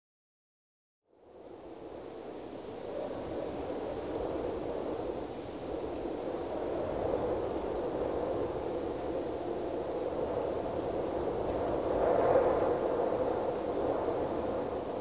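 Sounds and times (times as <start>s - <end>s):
steady rushing noise: 1.8s - 15.0s.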